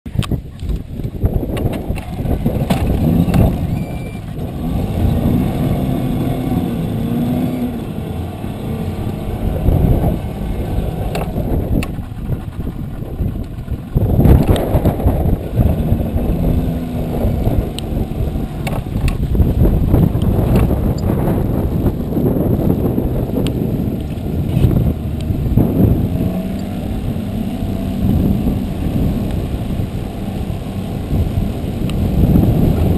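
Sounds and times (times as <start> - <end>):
boat motor running: 0.1 - 32.9
wind buffeting microphone: 0.1 - 32.9
water splashing against hull: 0.2 - 32.9.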